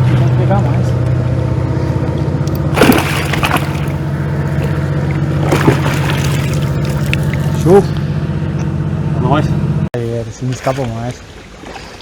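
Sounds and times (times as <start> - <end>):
water splashing: 0.0 - 8.1, 10.2 - 12.0
motor humming: 0.0 - 9.9.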